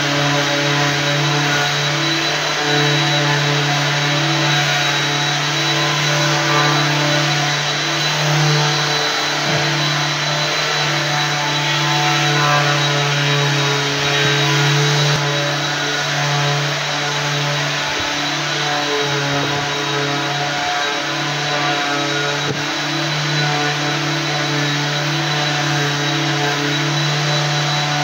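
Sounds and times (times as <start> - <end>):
floor sanding machine running: 0.0 - 28.0.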